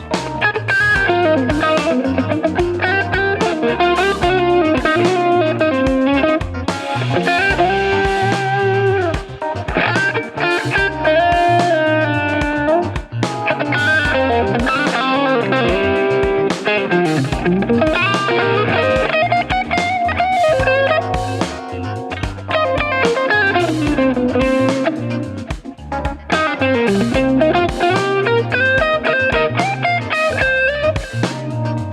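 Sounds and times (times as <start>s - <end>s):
electric guitar lead line: 0.0s - 31.9s.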